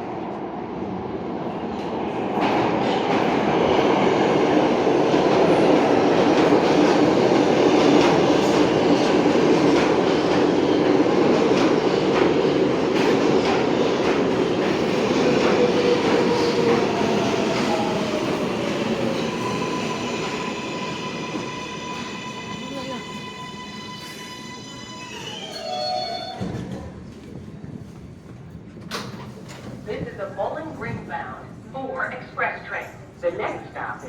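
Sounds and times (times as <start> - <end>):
subway car rumble: 0.0 - 34.0.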